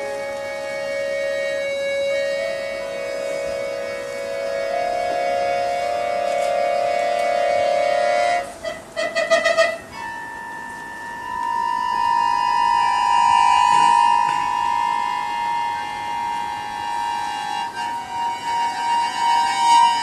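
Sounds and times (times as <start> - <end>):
piano accordion melody: 0.0 - 8.8, 9.6 - 20.0.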